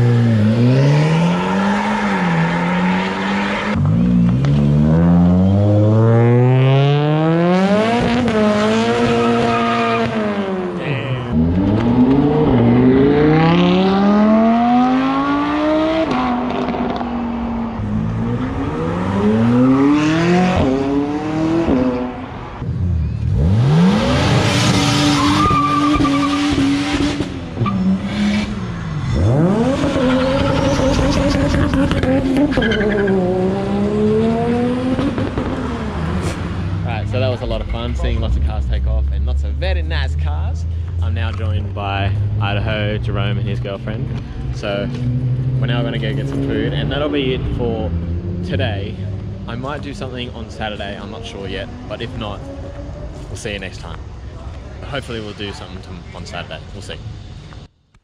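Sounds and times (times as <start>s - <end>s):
cars accelerating hard: 0.0s - 54.2s.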